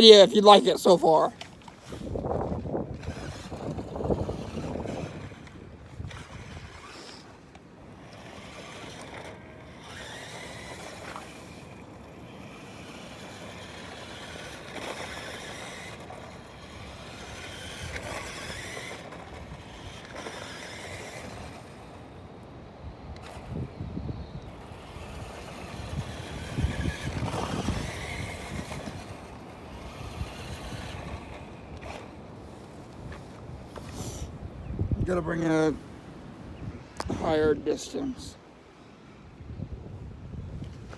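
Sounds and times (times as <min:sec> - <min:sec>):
toy truck motor whining: 0:00.0 - 0:34.4.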